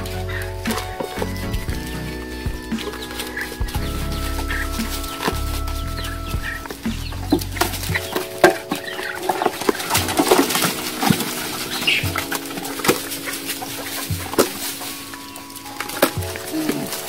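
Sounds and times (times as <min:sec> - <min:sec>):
background music of held chords: 0:00.0 - 0:17.0
chickens clucking: 0:00.0 - 0:17.0.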